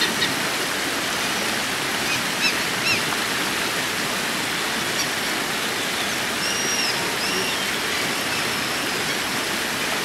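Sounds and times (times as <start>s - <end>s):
creek water rushing over stones: 0.0s - 10.0s.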